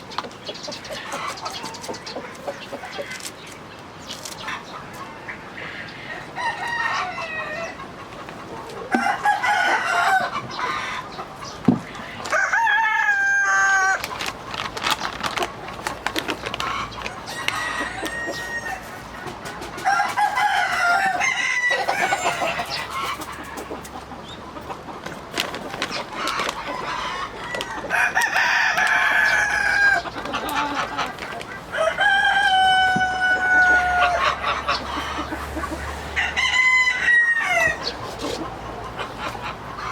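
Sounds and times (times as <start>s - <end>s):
hens clucking: 0.0s - 39.9s
roosters crowing: 4.4s - 15.0s, 15.8s - 24.2s, 25.6s - 39.9s.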